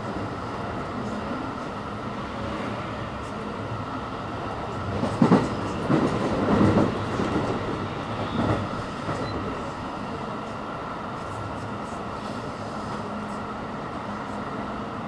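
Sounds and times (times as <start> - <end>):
electric train running rumble: 0.0 - 15.0.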